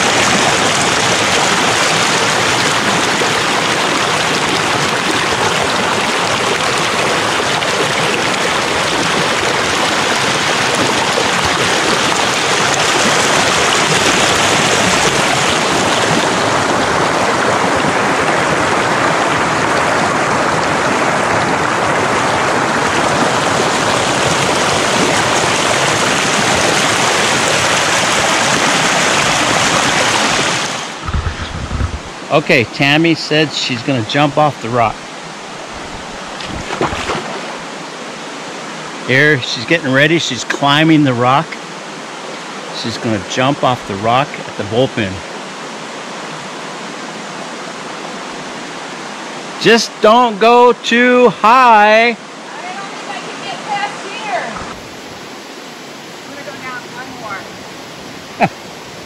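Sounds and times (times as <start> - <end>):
creek water rushing over boulders: 0.0 - 59.0.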